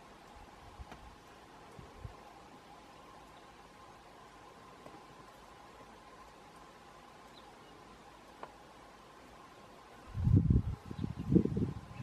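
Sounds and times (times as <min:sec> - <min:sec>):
faint background hiss: 0:00.0 - 0:12.0
faint steady tone: 0:00.0 - 0:12.0.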